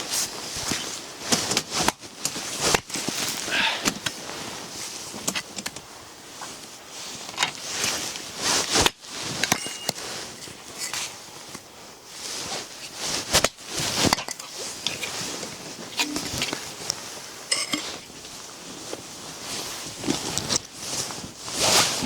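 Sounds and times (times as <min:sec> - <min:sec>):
rustling and handling noises: 0:00.0 - 0:22.0.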